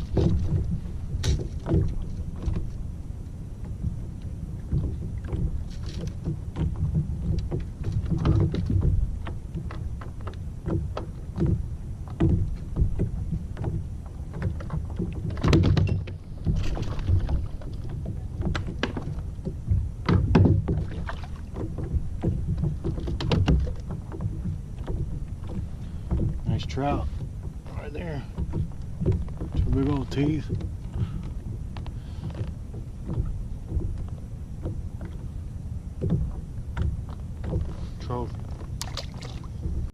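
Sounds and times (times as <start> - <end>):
steady low rumble: 0.0 - 39.9
water slapping against hull: 0.0 - 39.9.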